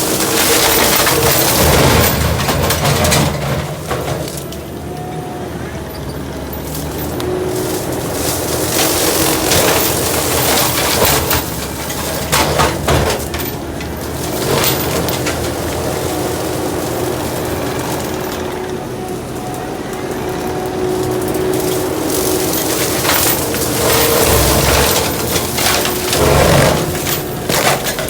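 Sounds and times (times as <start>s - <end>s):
cutter cracking and splintering wood: 0.0s - 4.8s, 6.4s - 28.0s
engine droning: 0.0s - 28.0s.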